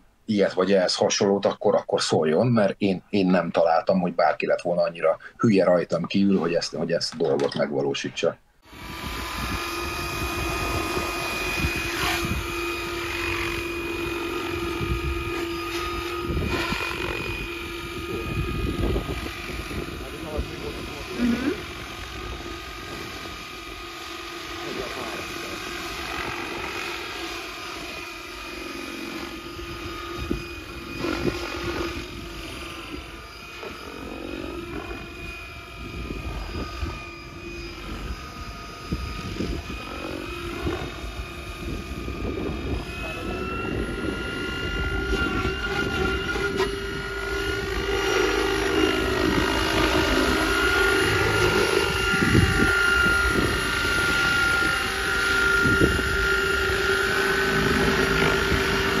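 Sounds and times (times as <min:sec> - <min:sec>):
rc helicopter rotor whine: 0:08.6 - 0:59.0.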